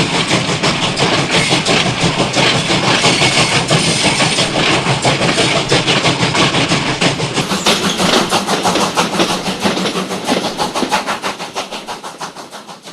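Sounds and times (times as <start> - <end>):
steam hiss: 0.0 - 12.9
steam train chugging: 0.0 - 12.9.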